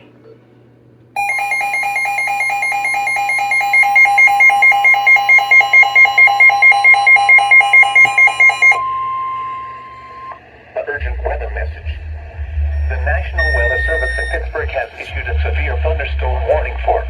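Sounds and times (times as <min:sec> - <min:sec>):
warbling alarm beeping: 0:01.2 - 0:15.1
steady warning tone: 0:01.2 - 0:17.0.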